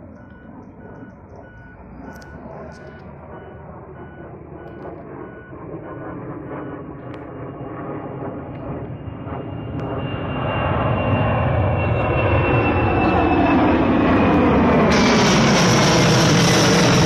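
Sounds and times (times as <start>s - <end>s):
jet engine high whine: 0.0s - 17.0s
jet engines rumbling: 0.0s - 17.0s.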